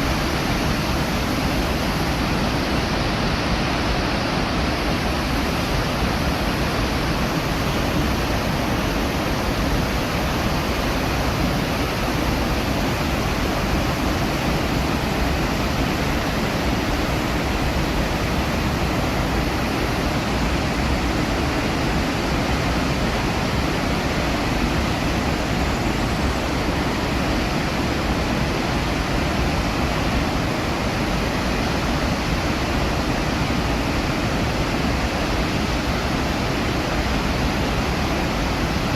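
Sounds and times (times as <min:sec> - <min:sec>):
waterfall roar: 0:00.0 - 0:38.9.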